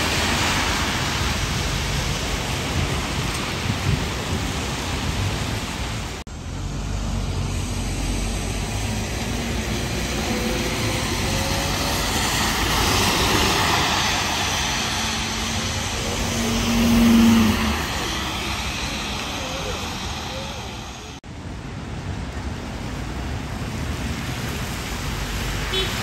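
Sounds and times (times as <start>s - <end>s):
traffic engine noise: 0.0s - 26.0s
tyres hissing on wet road: 0.0s - 26.0s.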